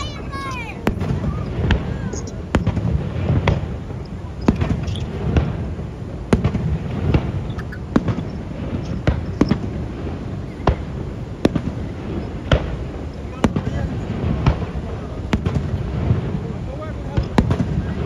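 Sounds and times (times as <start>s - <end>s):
fireworks shells bursting: 0.0s - 18.0s
steady low rumble: 0.0s - 18.0s.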